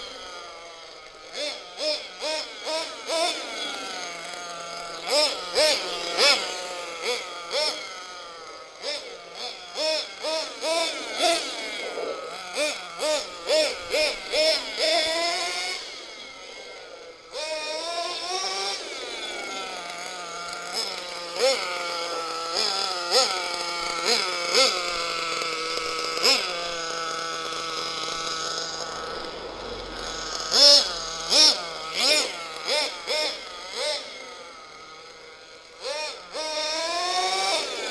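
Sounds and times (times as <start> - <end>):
small nitro engine revving: 0.0 - 37.9.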